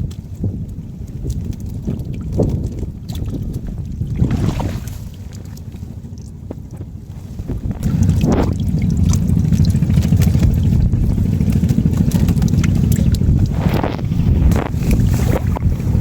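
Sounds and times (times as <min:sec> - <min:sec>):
water splashing and pouring: 0:00.0 - 0:06.3, 0:07.0 - 0:16.0
wind rumbling on microphone: 0:00.0 - 0:16.0.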